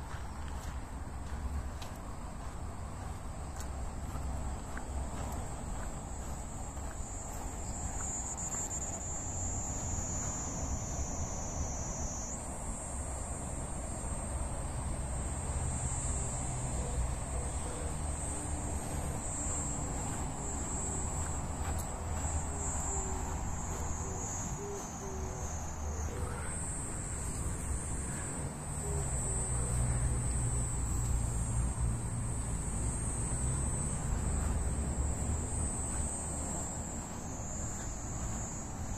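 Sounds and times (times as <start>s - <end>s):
insects droning high-pitched: 0.0s - 38.9s.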